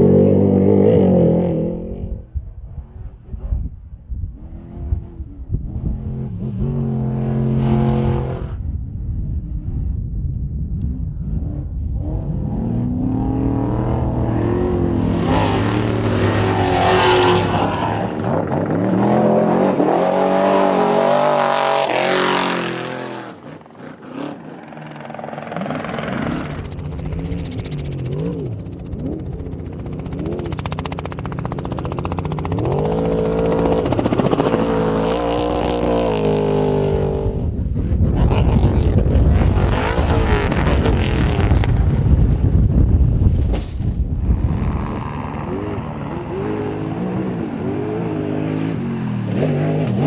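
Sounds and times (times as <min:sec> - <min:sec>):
racing truck engines revving: 0:04.4 - 0:08.6, 0:10.9 - 0:42.0, 0:44.4 - 0:50.0.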